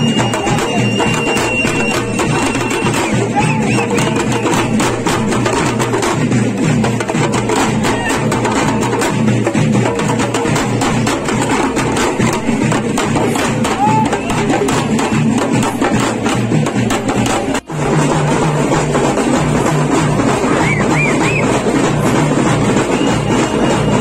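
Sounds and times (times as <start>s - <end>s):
fast percussion music: 0.0s - 24.0s.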